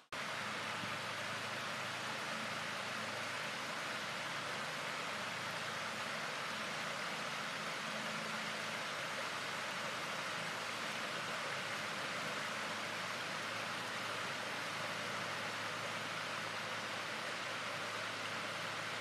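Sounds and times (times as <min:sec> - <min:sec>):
river rushing over riffles: 0:00.1 - 0:19.0.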